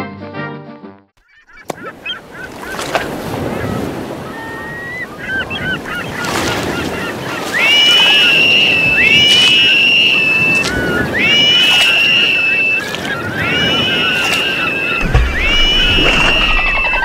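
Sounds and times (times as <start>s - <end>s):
birds calling: 1.2s - 17.0s
surf washing: 1.7s - 17.0s.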